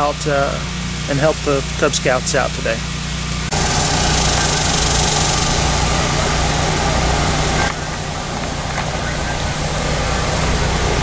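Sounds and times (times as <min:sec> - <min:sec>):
broad hiss: 0:00.0 - 0:11.0
engine-like low hum: 0:00.0 - 0:11.0.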